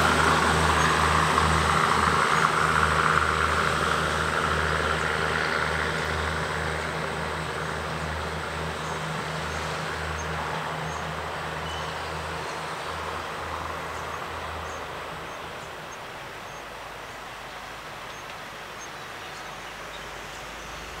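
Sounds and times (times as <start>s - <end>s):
diesel train engines droning: 0.0s - 21.0s.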